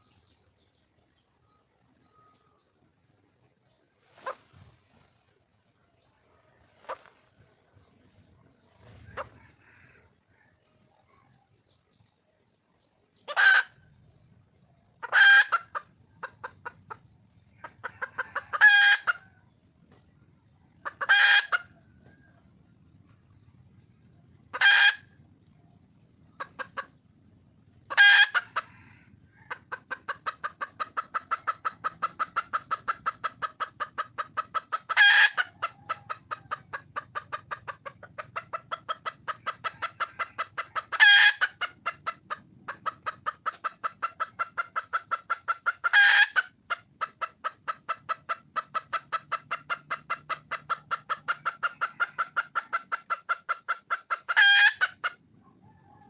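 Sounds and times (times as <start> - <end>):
hen clucking rapidly: 0.0 - 56.0.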